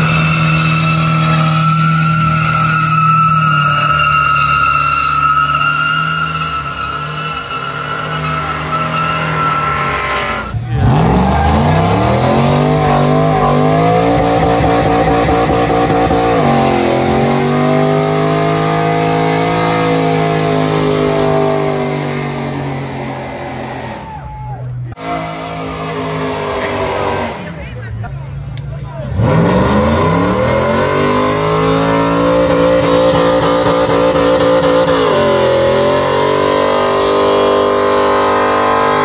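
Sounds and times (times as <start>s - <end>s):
pickup truck engine revving: 0.0s - 24.0s, 25.0s - 39.0s
car engine revving high: 0.0s - 24.1s, 25.0s - 27.9s, 29.0s - 39.0s
tires squealing: 0.0s - 39.0s.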